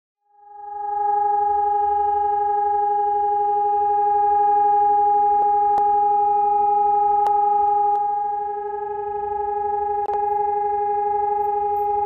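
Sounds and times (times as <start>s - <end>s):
air raid siren steady note: 0.2s - 12.0s.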